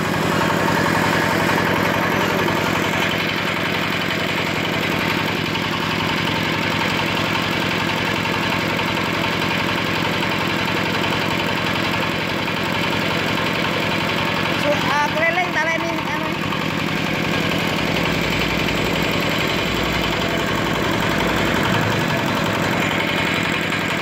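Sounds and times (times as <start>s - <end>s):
hoist engine running: 0.0s - 24.0s.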